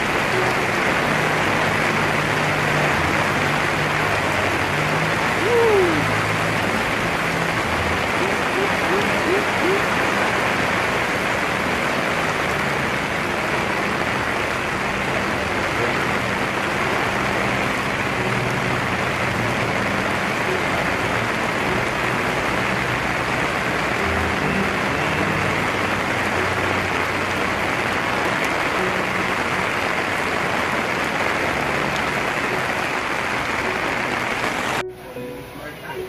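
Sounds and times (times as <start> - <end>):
heavy rain on pavement: 0.0 - 36.0.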